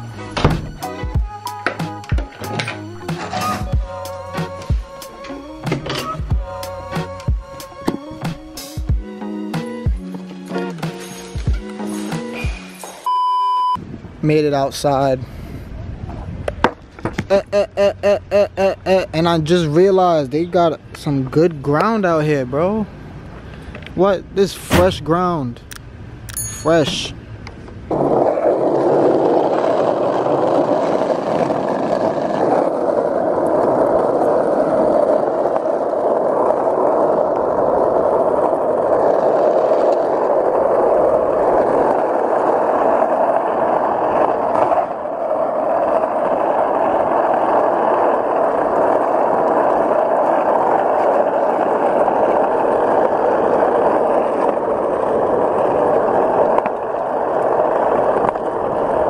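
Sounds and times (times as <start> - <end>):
skateboard wheels rolling on asphalt: 0.0 - 59.0.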